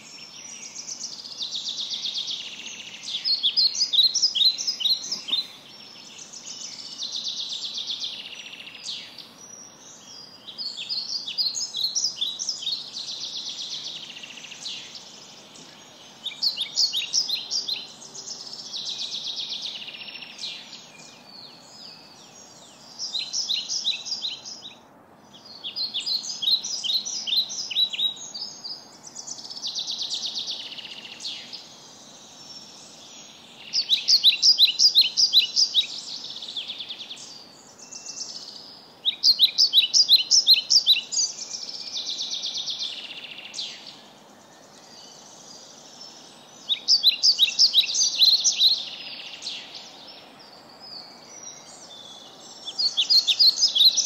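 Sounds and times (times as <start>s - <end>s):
birds singing trills: 0.0s - 54.0s.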